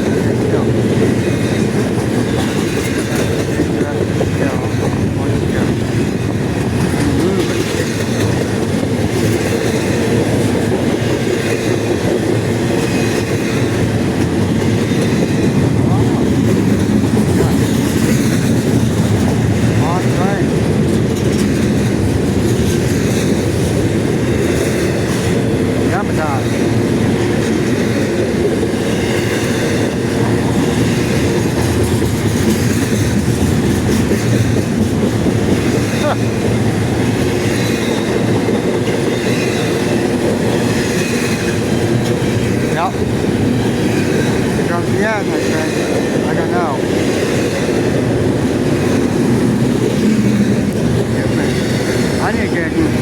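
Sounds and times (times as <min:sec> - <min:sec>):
freight train cars rolling past: 0:00.0 - 0:53.0.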